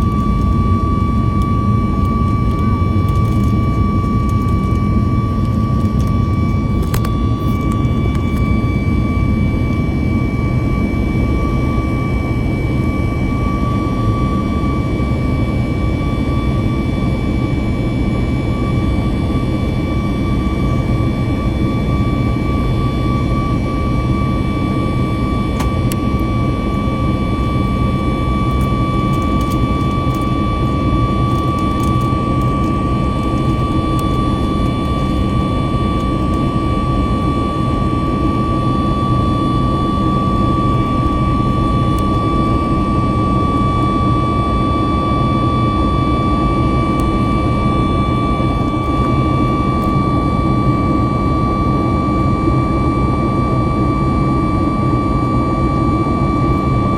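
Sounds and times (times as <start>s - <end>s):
jet engines rumbling and whining: 0.0s - 56.9s.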